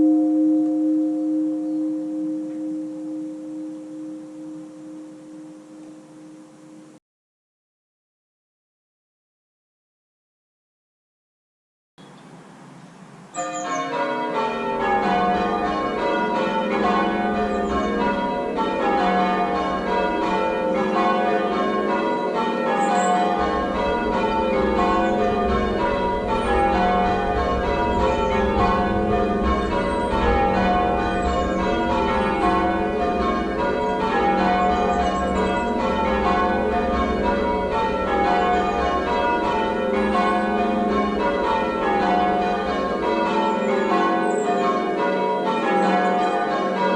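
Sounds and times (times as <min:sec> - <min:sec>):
church bells change ringing: 0:00.0 - 0:07.0, 0:13.3 - 0:46.9.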